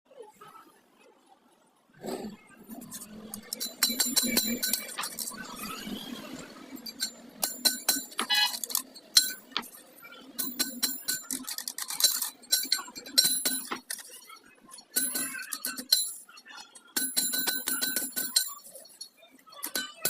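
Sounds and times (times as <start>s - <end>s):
light metallic clinks and clicks: 2.8s - 5.6s, 6.4s - 20.0s.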